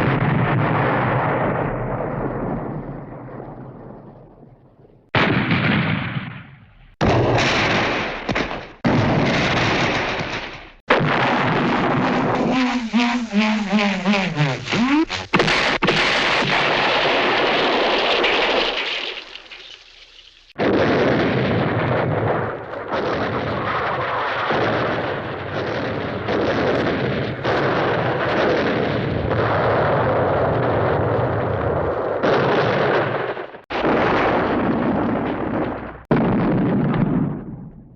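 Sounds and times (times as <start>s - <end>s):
cartoon explosion sound effects: 5.2s - 37.9s.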